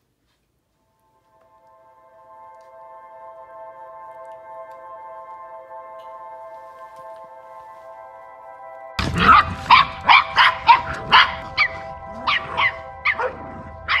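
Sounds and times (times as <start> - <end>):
held music chord: 0.6 - 14.0.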